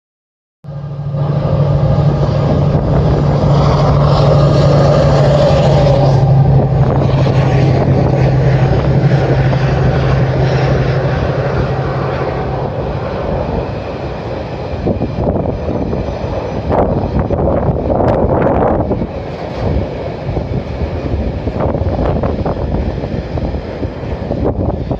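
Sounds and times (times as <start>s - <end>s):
diesel locomotive under power: 0.6s - 24.9s
strong low hum: 0.6s - 24.9s
locomotive cooling fans: 0.7s - 24.9s.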